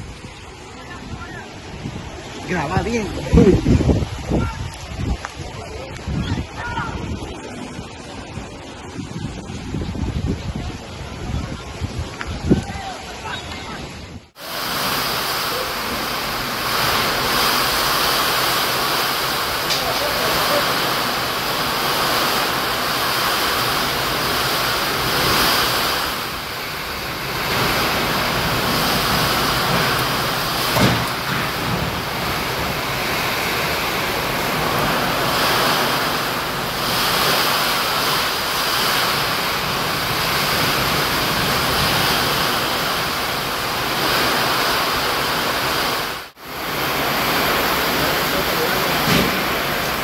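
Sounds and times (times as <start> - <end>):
gusting wind: 0.0 - 50.0
torrential rain: 0.0 - 50.0.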